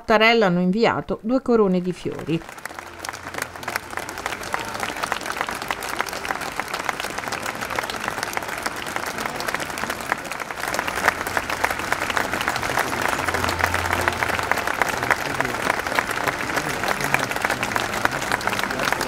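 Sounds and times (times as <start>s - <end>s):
crowd applauding: 2.3s - 19.0s.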